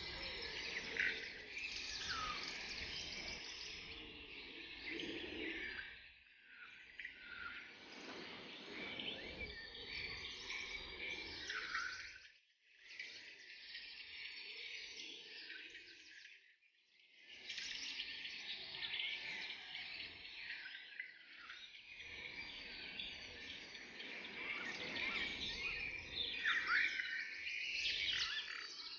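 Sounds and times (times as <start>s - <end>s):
birds chirping and trilling: 0.0s - 16.5s, 17.2s - 28.9s.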